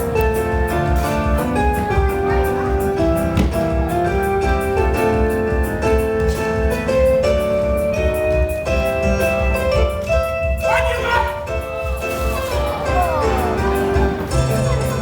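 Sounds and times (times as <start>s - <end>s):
melody of held notes: 0.0s - 15.0s.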